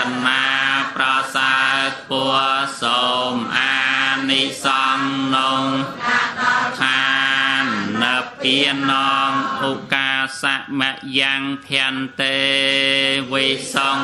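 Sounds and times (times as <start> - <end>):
man chanting: 0.0 - 6.0, 6.6 - 14.0.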